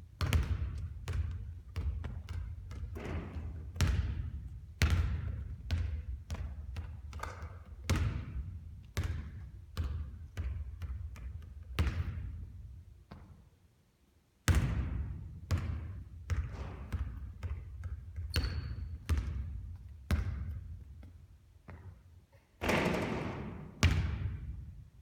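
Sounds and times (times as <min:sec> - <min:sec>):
basketballs bouncing on court: 0:00.1 - 0:13.4, 0:14.5 - 0:22.0, 0:22.6 - 0:24.7.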